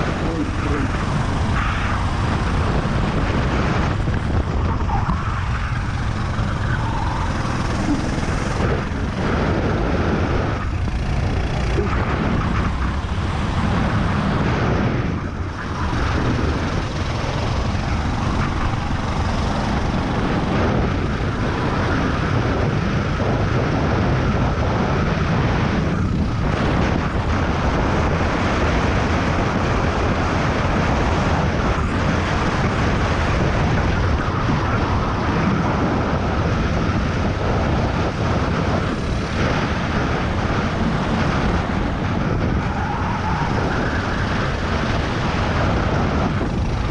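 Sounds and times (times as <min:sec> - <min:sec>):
kart engine running hard: 0:00.0 - 0:46.9
wind noise: 0:00.0 - 0:46.9.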